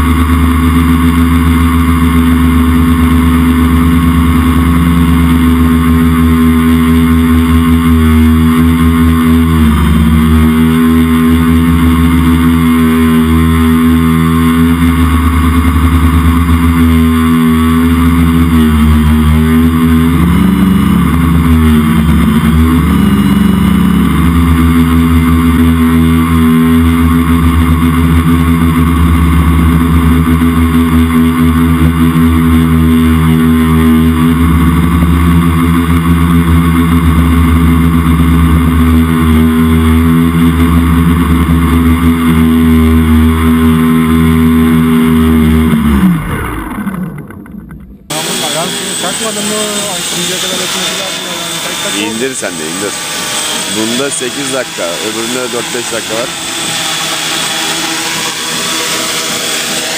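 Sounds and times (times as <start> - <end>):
multicopter motors and propellers: 0.0 - 59.9.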